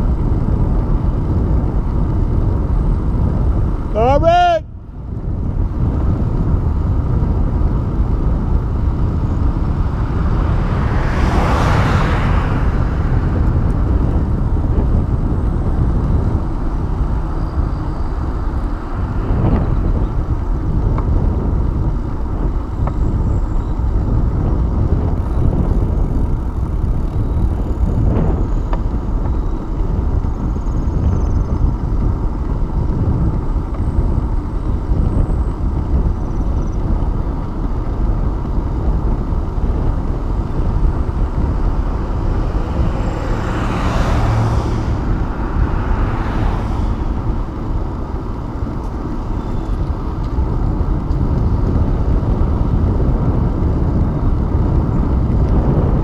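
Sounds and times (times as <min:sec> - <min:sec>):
tyre noise on asphalt: 0:00.0 - 0:56.0
wind buffeting microphone: 0:00.0 - 0:56.0.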